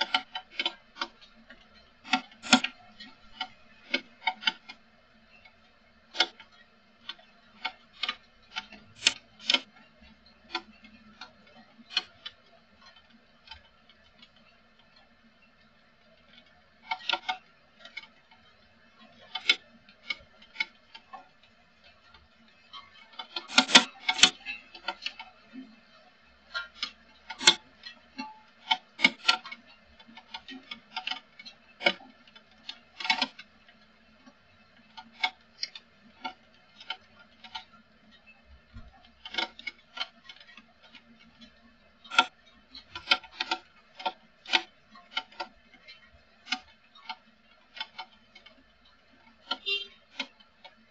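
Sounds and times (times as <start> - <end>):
faint electrical hum: 0.0 - 50.9.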